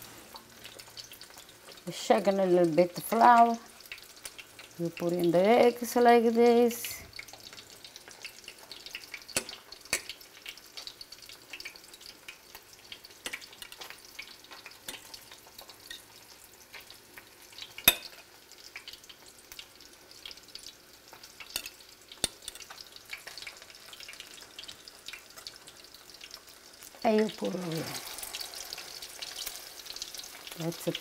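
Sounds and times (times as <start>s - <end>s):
fish frying in hot oil: 0.0s - 31.0s.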